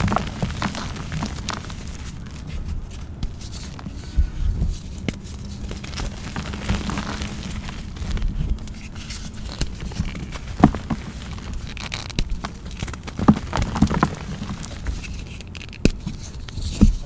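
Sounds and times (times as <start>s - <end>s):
chalk crunching and crumbling: 0.0s - 17.0s.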